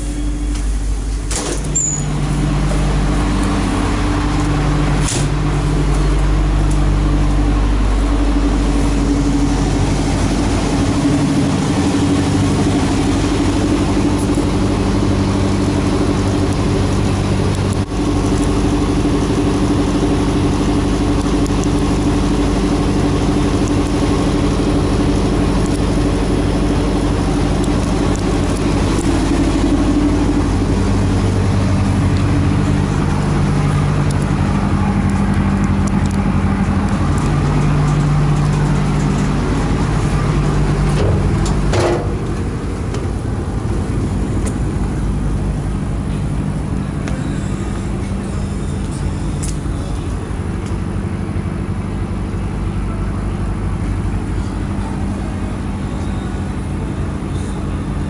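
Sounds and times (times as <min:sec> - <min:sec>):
boat diesel engine drone: 0:00.0 - 0:58.0.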